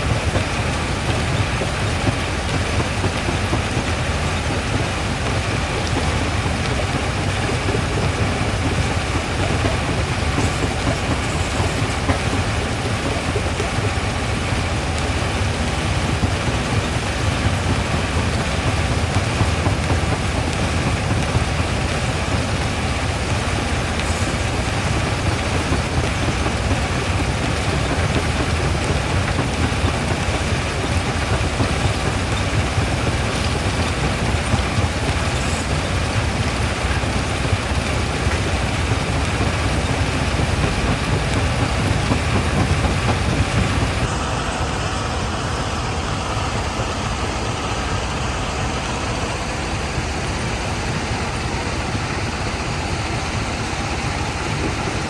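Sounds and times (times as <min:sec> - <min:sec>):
engine-like hum: 0:00.0 - 0:55.0
rock crusher rumbling: 0:00.0 - 0:55.0.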